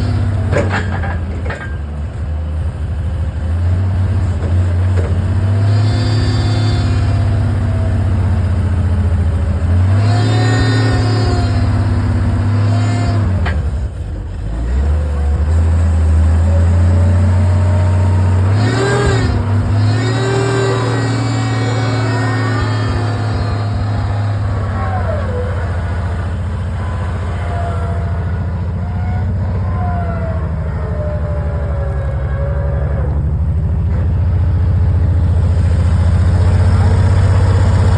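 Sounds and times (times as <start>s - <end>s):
engine running and revving: 0.0s - 37.9s.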